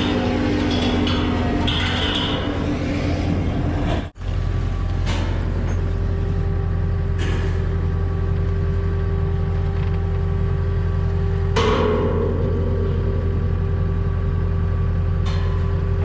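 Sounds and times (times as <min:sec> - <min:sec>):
heavy equipment engine running: 0:00.0 - 0:16.0.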